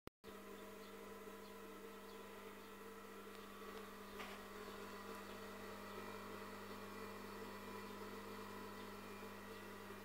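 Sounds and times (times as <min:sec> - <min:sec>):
sewing machine motor hum: 0:00.3 - 0:10.0.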